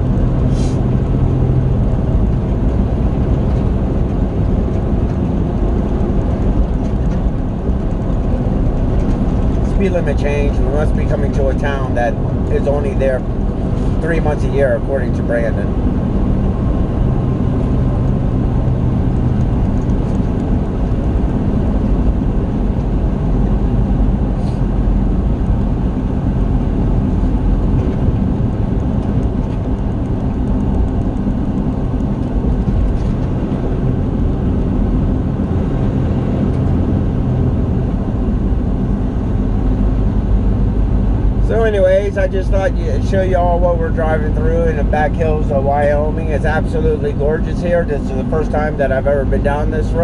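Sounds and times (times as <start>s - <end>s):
road noise inside cab: 0.0s - 50.0s
truck diesel engine drone: 0.0s - 50.0s.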